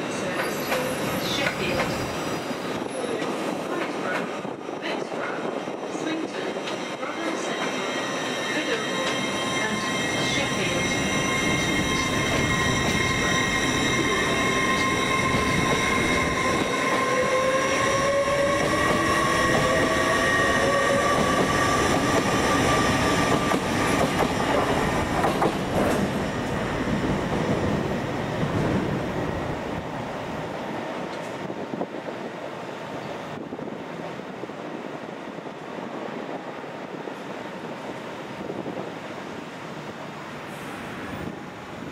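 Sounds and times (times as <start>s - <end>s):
train running gear rumbling: 0.0s - 34.4s.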